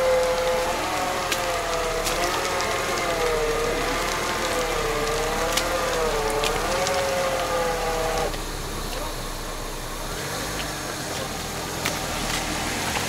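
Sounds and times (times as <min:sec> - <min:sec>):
strained engine whine: 0:00.0 - 0:13.0.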